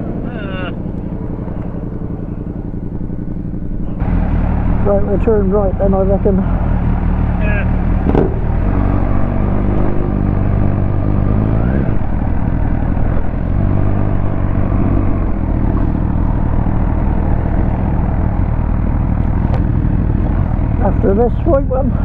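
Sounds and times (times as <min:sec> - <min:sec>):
motorcycle engine accelerating: 0:00.0 - 0:22.0
wind and road noise: 0:00.0 - 0:22.0.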